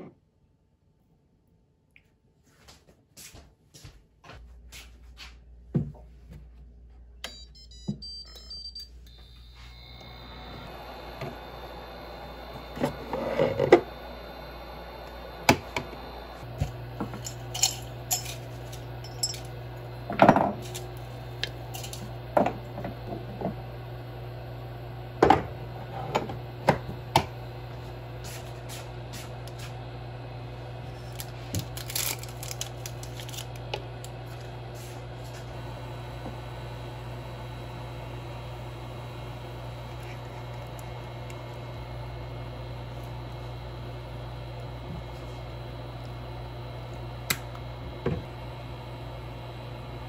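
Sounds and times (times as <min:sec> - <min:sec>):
low steady hum: 0:05.5 - 0:50.0.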